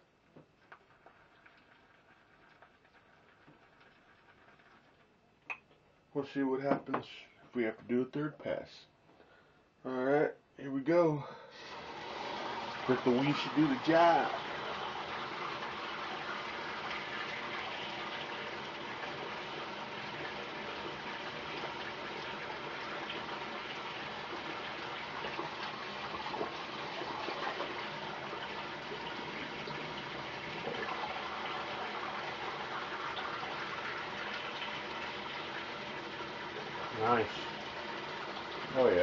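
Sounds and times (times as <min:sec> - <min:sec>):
tap water running: 0:00.0 - 0:05.8, 0:11.6 - 0:39.0.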